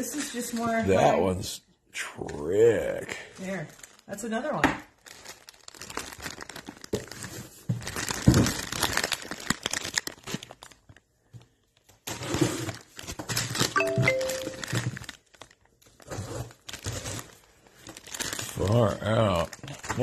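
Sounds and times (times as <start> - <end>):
plastic bag crinkling: 2.9 - 20.0.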